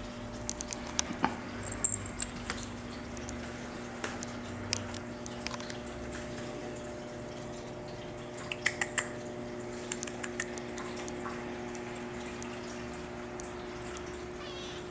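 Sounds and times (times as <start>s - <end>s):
room tone hum: 0.0s - 14.9s.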